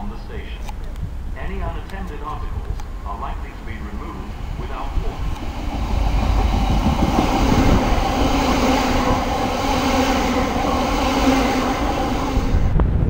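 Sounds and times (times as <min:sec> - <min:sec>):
train passing at speed: 0:01.4 - 0:13.0.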